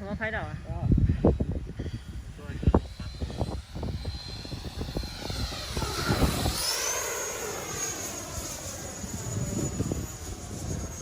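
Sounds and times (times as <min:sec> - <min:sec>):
electric jet whine: 0:00.0 - 0:11.0
wind buffeting microphone: 0:00.0 - 0:11.0.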